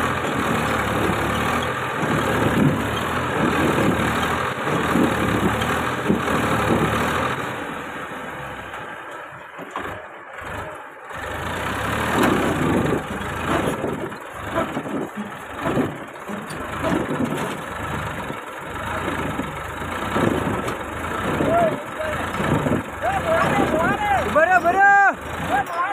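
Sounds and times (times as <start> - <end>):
tractor diesel engine revving: 0.0 - 25.9.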